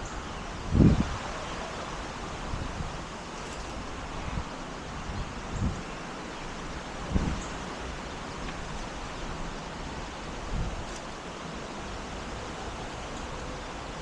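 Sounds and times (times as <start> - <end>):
wind buffeting microphone: 0.0 - 14.0
wind rushing outdoors: 0.0 - 14.0.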